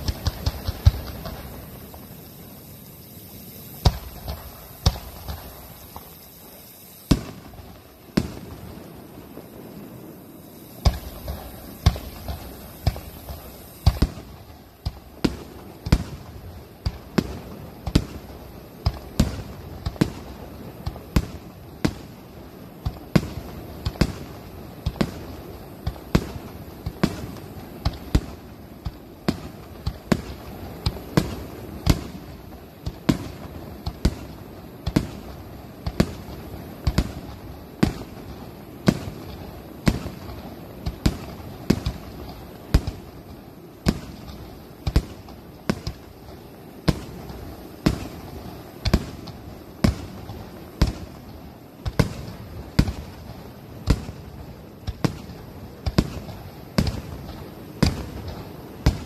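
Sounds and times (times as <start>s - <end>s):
background noise: 0.0s - 59.0s
firework shells bursting: 0.0s - 59.0s.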